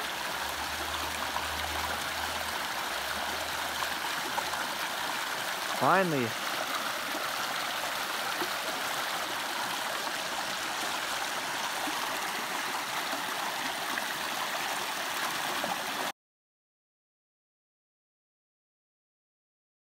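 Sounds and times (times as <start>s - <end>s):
creek running over stones: 0.0s - 16.1s.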